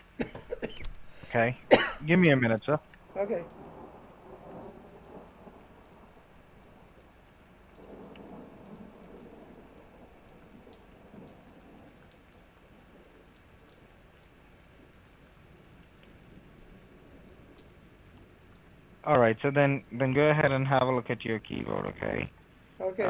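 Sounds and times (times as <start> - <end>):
low rumble of thunder: 0.0 - 23.0
steady rain: 0.0 - 23.0.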